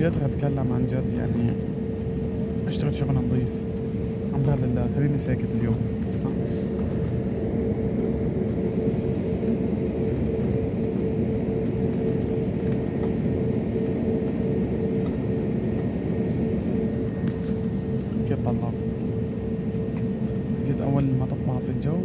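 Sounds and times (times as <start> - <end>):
airliner cabin rumble: 0.0 - 22.0
constant humming tone: 0.0 - 22.0.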